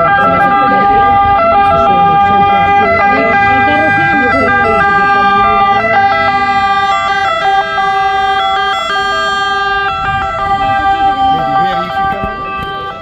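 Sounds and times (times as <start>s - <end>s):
two-tone emergency sirens: 0.0s - 13.0s.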